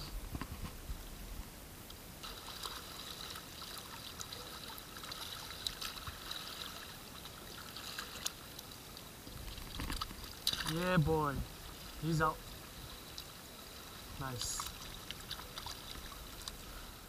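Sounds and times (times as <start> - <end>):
water lapping among rocks: 2.2 - 17.0.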